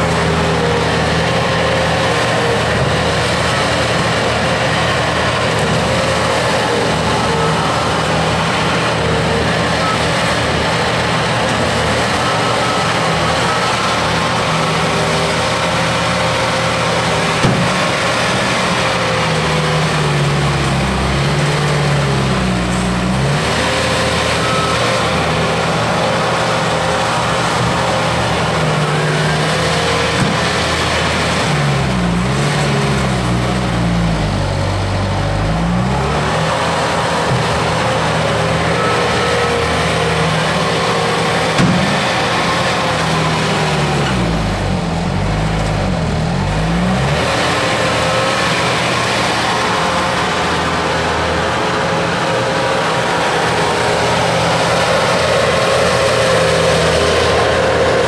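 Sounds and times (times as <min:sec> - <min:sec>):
loader diesel engine running hard: 0:00.0 - 0:58.0.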